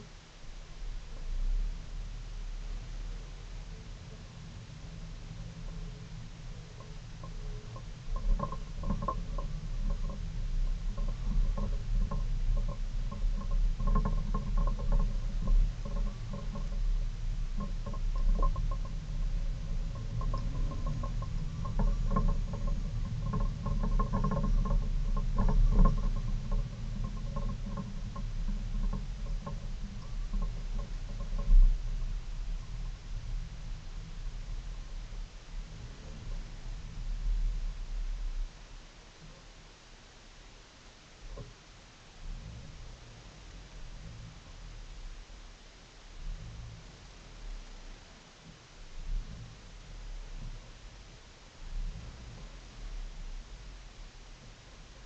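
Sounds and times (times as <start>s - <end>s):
light rattles and clicks: 0.0s - 55.0s.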